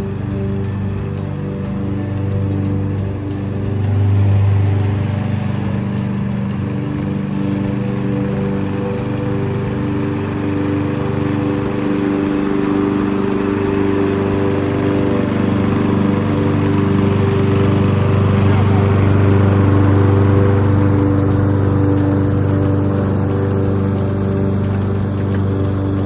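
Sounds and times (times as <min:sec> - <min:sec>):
lawn mower running: 0:00.0 - 0:26.0.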